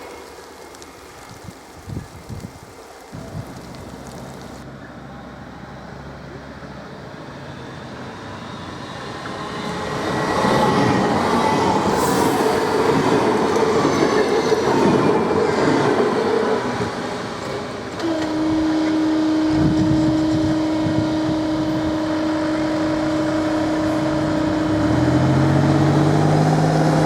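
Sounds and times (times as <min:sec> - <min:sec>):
electric train hum: 0:02.8 - 0:27.0.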